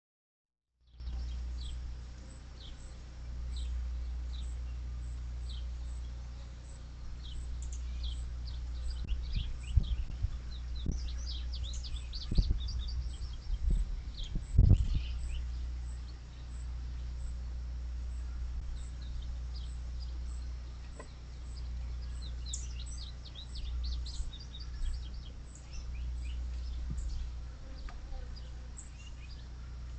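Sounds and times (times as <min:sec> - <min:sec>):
birds chirping: 0:00.8 - 0:29.9
steady low rumble: 0:00.8 - 0:29.9.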